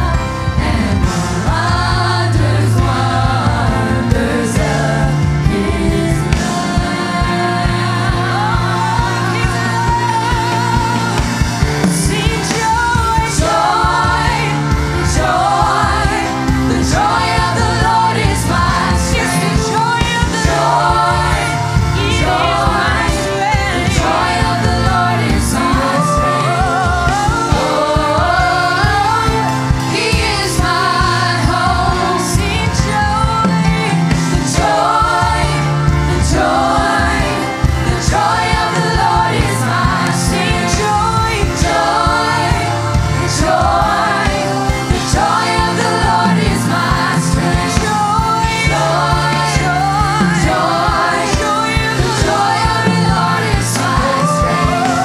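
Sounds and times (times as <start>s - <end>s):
group singing gospel: 0.0s - 55.0s
keyboard-led band playing: 0.0s - 55.0s.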